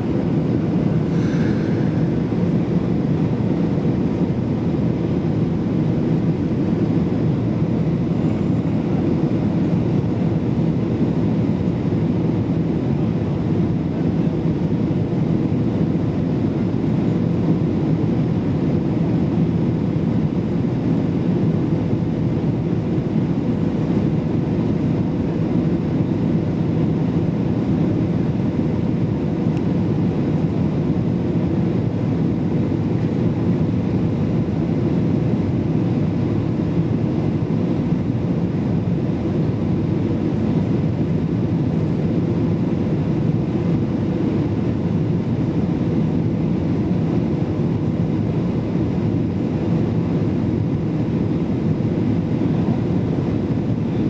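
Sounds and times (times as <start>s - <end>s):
airflow and jet engine rush: 0.0s - 54.0s
faint steady hum: 0.0s - 54.0s.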